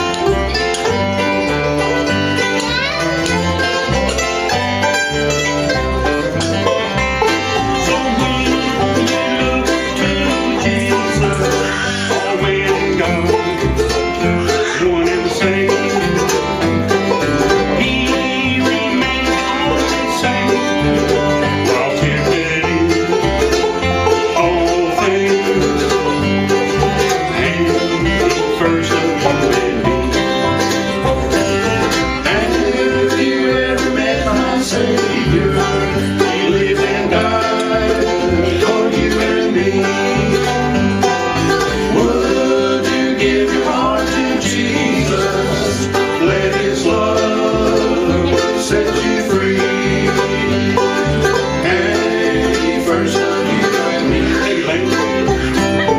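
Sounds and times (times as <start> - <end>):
banjo and guitar picking: 0.0 - 55.9
bass notes: 0.0 - 55.9
bluegrass band playing: 0.0 - 55.9.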